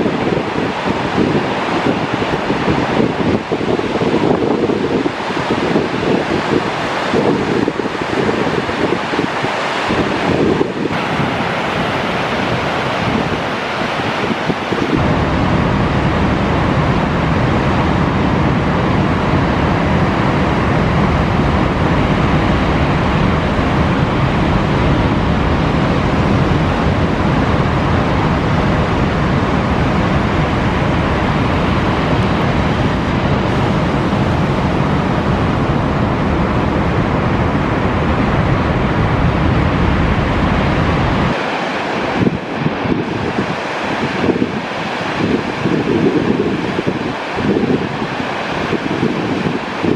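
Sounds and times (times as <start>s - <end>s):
heavy surf breaking: 0.0s - 49.9s
wind buffeting microphone: 0.0s - 49.9s.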